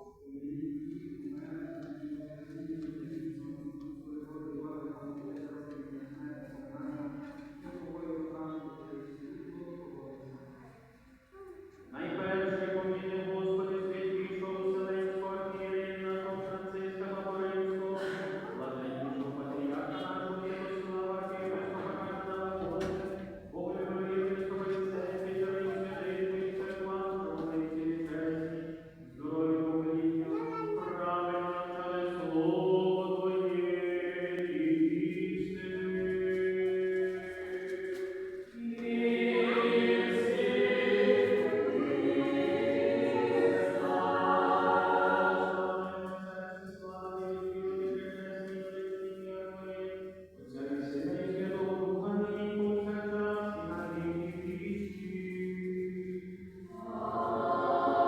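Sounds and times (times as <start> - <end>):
choir chanting a hymn: 0.0 - 10.4, 11.4 - 58.0.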